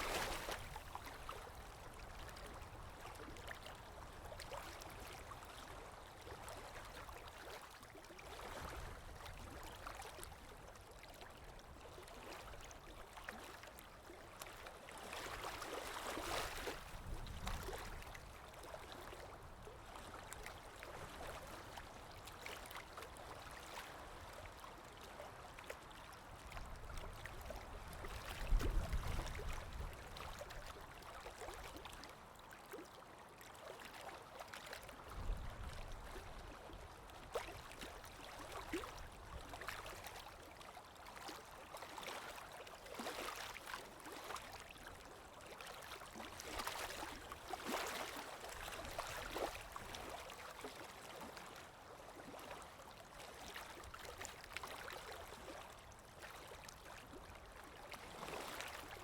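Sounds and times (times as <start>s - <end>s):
water lapping: 0.0s - 59.0s.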